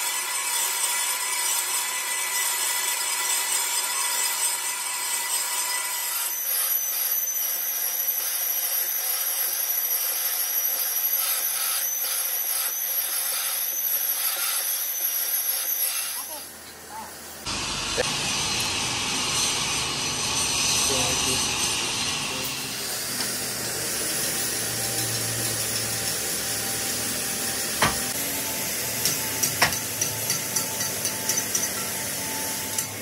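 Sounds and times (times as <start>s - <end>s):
lathe cutting metal: 0.0s - 16.3s, 17.5s - 33.0s.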